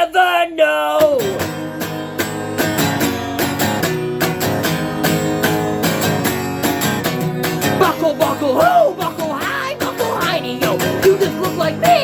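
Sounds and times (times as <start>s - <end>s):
guitar plucked and strummed chords: 0.9s - 12.0s.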